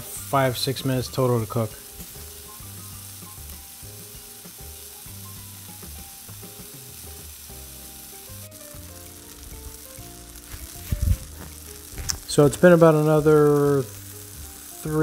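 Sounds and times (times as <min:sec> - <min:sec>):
patties sizzling on a griddle: 0:00.0 - 0:15.0
soft background music: 0:00.0 - 0:15.0.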